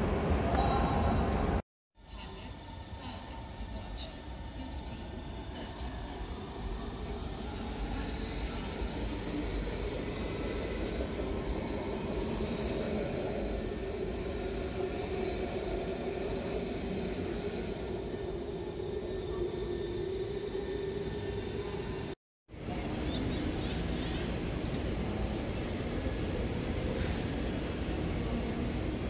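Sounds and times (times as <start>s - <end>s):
train rumbling on rails: 0.0s - 1.6s, 3.0s - 29.0s.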